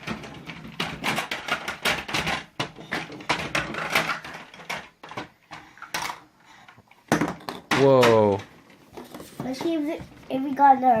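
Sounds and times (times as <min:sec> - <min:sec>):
plastic toys clattering: 0:00.0 - 0:11.0.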